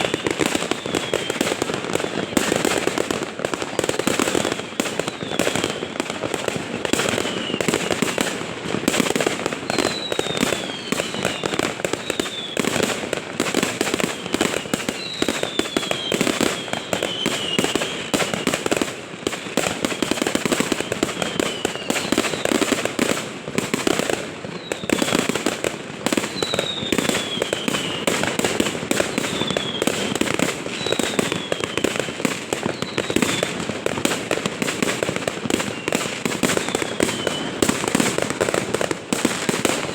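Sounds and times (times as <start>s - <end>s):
falling fireworks whistles: 0.0s - 39.9s
fireworks bangs and crackles: 0.0s - 39.9s.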